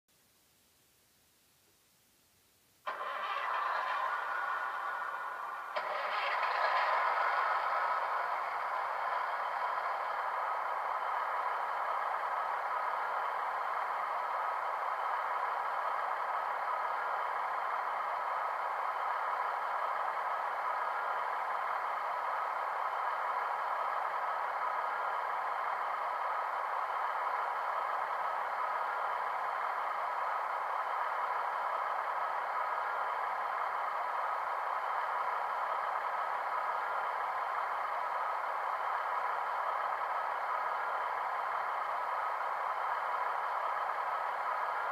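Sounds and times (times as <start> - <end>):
model diesel engine idling hum: 2.8 - 44.9.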